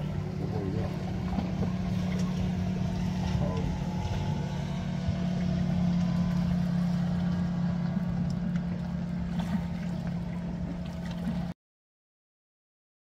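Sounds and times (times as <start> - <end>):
low engine drone: 0.0 - 11.6.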